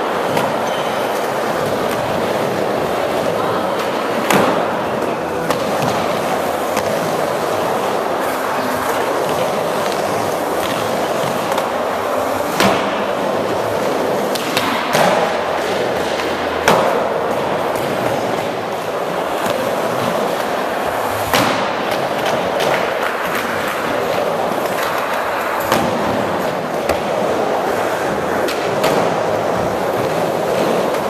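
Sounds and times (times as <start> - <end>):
skateboard wheels rolling on wood: 0.0 - 31.0.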